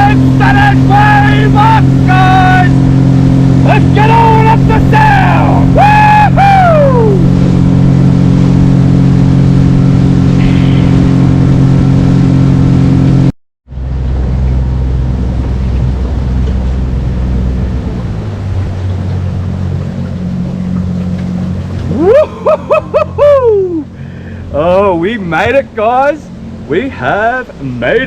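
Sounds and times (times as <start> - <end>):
small boat motor droning: 0.0 - 28.0.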